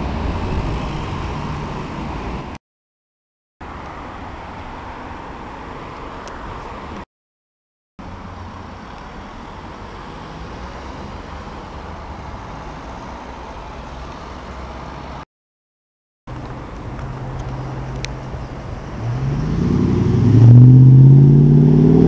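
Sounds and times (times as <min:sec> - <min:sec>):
city road traffic rumble: 0:00.0 - 0:02.6, 0:03.6 - 0:07.1, 0:08.0 - 0:15.2, 0:16.3 - 0:22.0.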